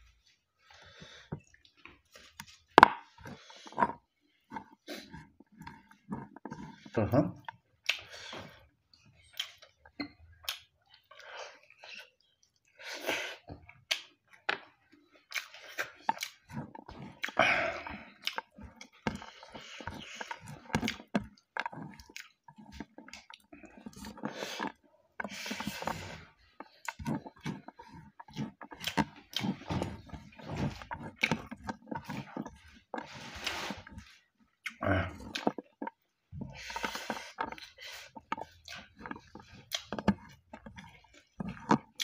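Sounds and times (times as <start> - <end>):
wet chewing and smacking: 0.0 - 42.0
fingers working rice on plate: 1.4 - 8.6, 15.3 - 42.0.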